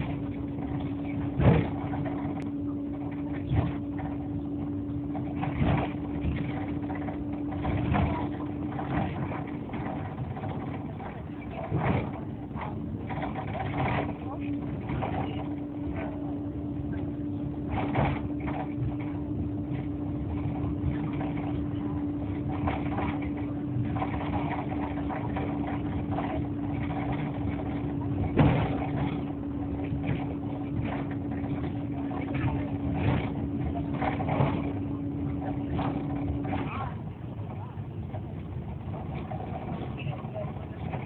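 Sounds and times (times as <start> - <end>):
road rumble: 0.0 - 41.0
vehicle engine drone: 0.0 - 41.0.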